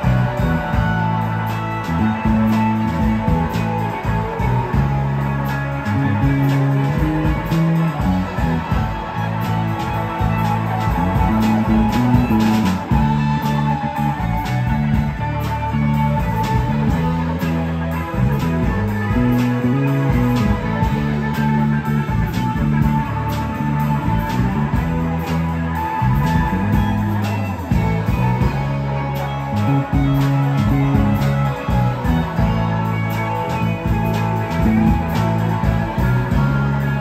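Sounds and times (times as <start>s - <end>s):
drum kit: 0.0s - 37.0s
electric bass line: 0.0s - 37.0s
electric guitars: 0.0s - 37.0s.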